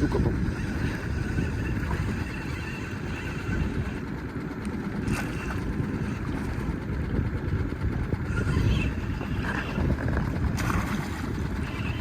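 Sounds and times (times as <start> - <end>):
boat motor running: 0.0 - 12.0
faint steady whine: 0.0 - 12.0
wind rumble on microphone: 0.0 - 12.0.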